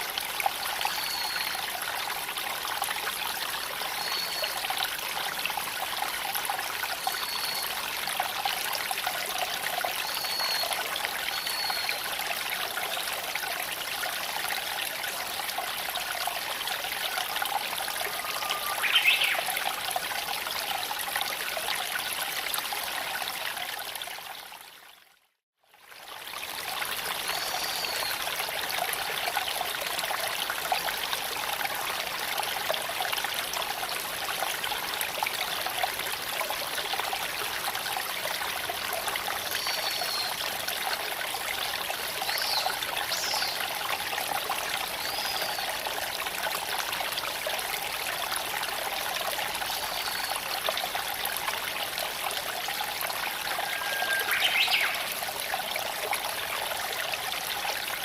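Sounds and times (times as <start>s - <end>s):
creek water flowing over stones: 0.0s - 58.0s.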